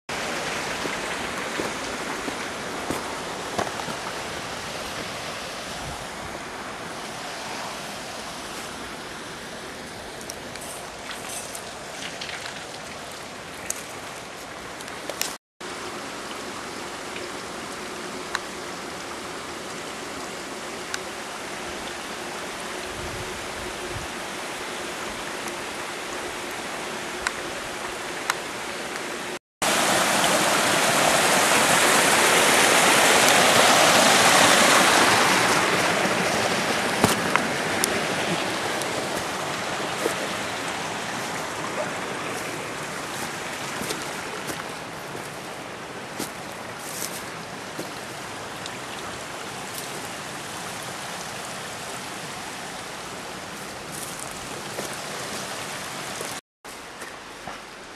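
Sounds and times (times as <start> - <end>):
small waterfall rushing: 0.1 - 57.9.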